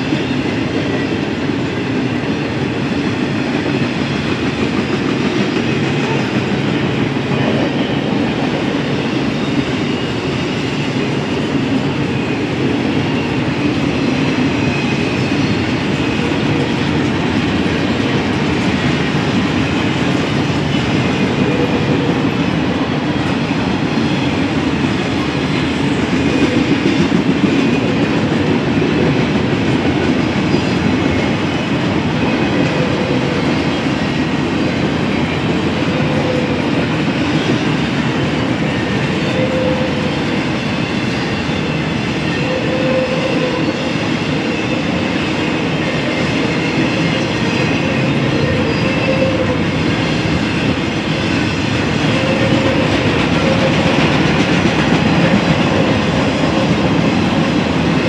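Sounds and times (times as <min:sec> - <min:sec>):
train wheels rumbling and clattering: 0:00.0 - 0:58.0.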